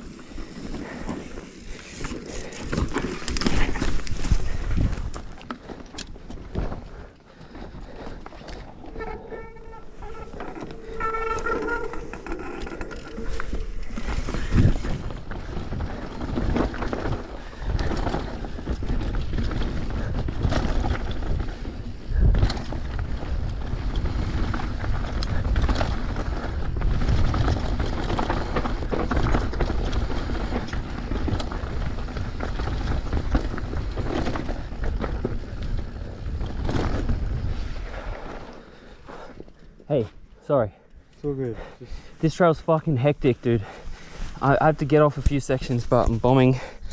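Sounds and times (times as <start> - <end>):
tyres rolling on dirt and rocks: 0.0 - 9.3, 9.9 - 41.5
bike rattling: 0.0 - 46.9.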